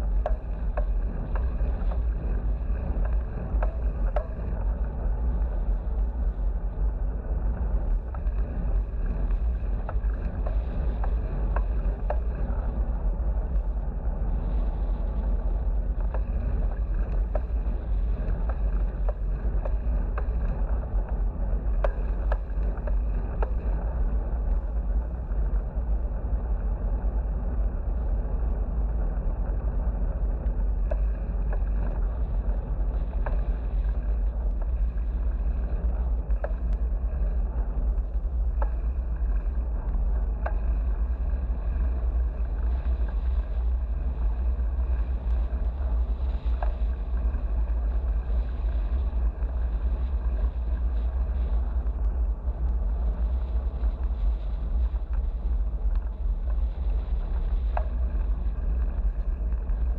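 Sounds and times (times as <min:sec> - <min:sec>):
faint ticks: 0:00.0 - 0:59.9
wind buffeting microphone: 0:00.0 - 0:59.9.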